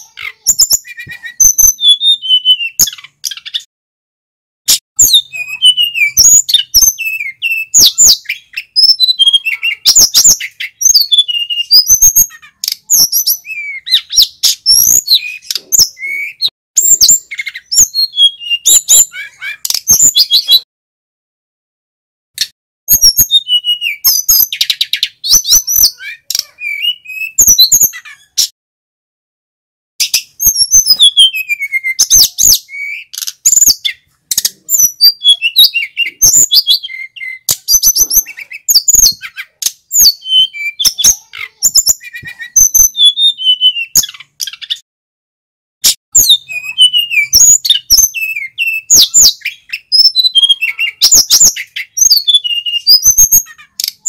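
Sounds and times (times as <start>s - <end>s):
bird singing high whistled notes: 0.4s - 3.6s, 5.0s - 12.3s, 12.9s - 20.7s, 22.9s - 28.0s, 30.0s - 34.1s, 34.7s - 44.8s, 46.1s - 54.0s.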